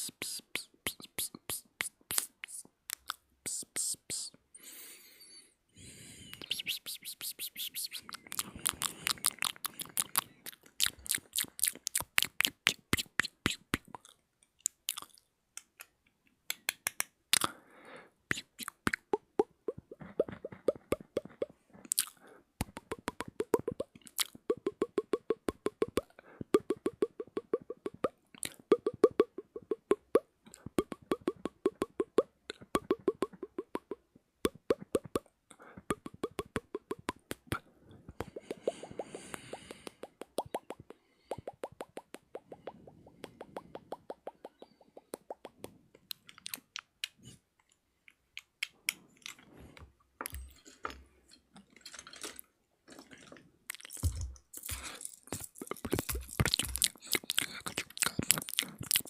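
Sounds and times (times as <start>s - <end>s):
wet tongue clicks: 0.0s - 4.3s, 6.3s - 17.6s, 18.3s - 37.6s, 38.2s - 47.3s, 48.1s - 49.4s, 53.7s - 59.0s
lip pops: 0.1s - 4.3s, 6.3s - 15.9s, 16.5s - 17.6s, 18.3s - 47.3s, 48.1s - 49.4s, 53.7s - 59.0s.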